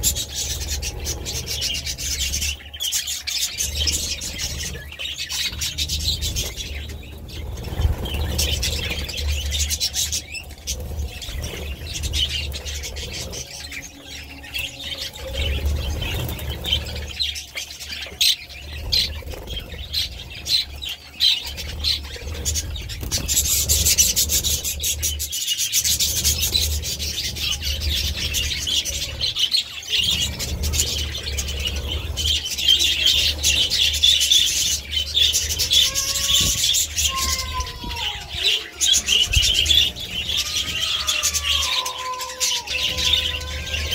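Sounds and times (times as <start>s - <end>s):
low rumble: 0.0s - 40.8s
low gliding bird calls: 0.0s - 43.9s.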